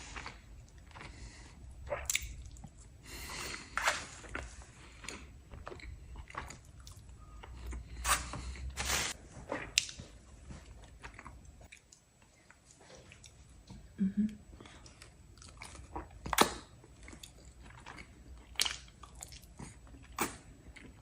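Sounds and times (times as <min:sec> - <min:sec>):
person chewing food: 0:00.0 - 0:13.9, 0:14.5 - 0:21.0.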